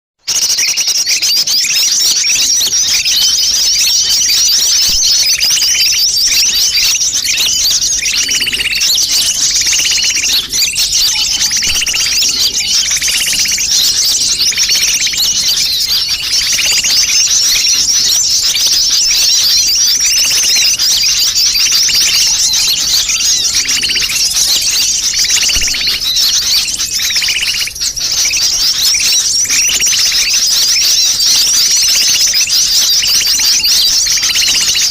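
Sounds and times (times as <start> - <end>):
flock of birds twittering: 0.2 - 34.9.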